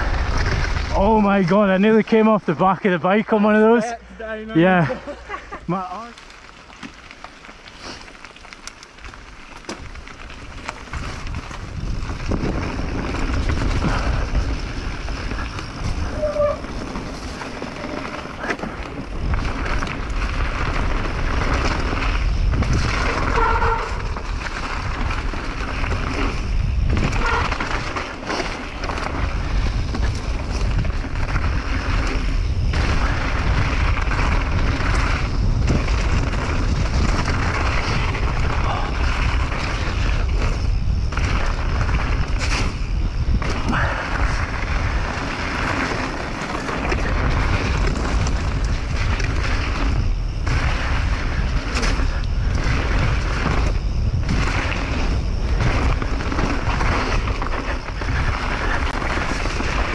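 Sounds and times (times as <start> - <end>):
wind rushing over microphone: 0.0 - 5.7, 9.0 - 59.9
tyres rumbling on trail: 0.0 - 59.9
bike squeaks: 6.0 - 59.9.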